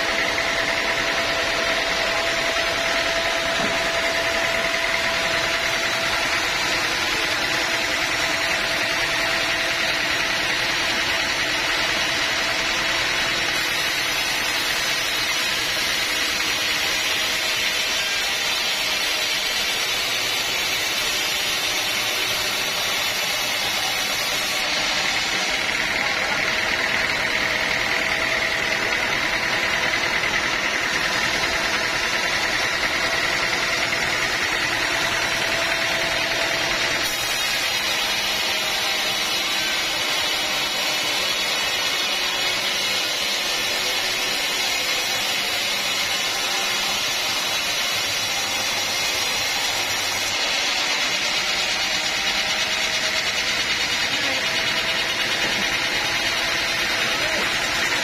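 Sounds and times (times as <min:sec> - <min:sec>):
sawmill mechanical noise: 0:00.0 - 0:58.0.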